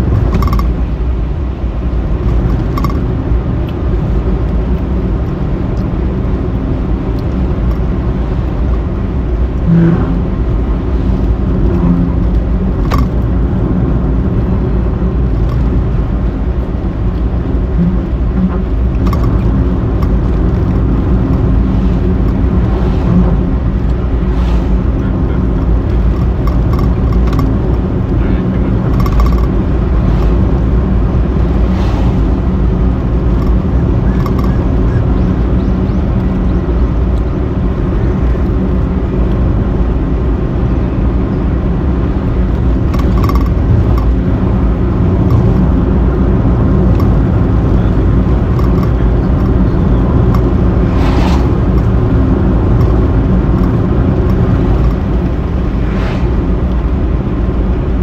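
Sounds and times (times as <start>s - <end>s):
vehicle wind and road noise: 0.0s - 58.0s.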